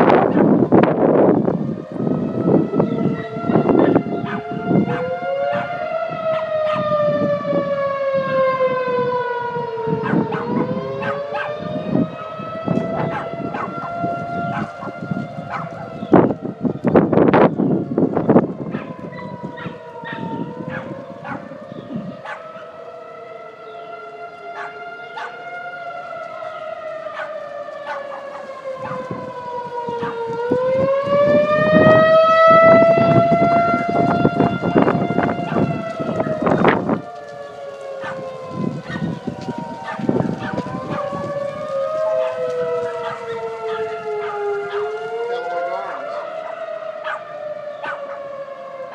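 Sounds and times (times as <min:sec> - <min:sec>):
falling and rising warning siren: 0:00.0 - 0:48.9
steady warning siren: 0:00.0 - 0:48.9.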